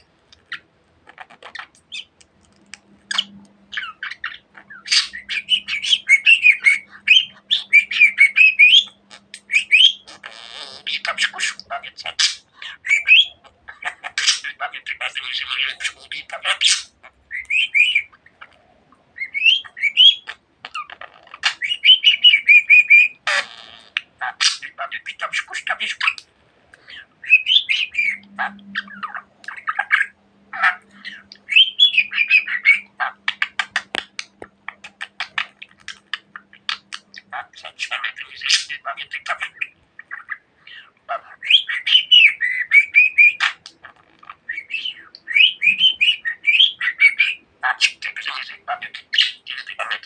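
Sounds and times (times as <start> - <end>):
budgerigar chirping and warbling: 0.0 - 2.2, 2.8 - 50.0.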